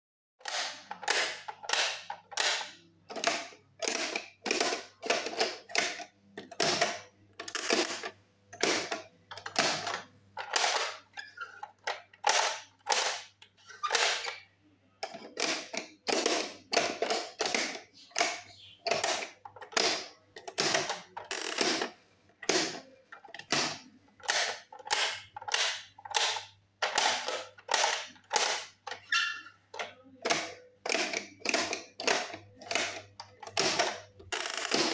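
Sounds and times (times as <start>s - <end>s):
plastic toy clacks: 0.4s - 34.9s.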